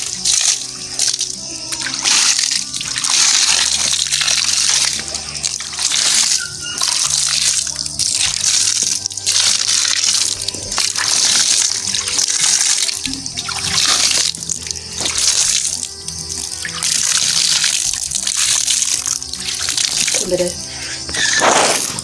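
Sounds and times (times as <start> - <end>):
background music: 0.0 - 22.0
water splashing on plants: 0.0 - 22.0.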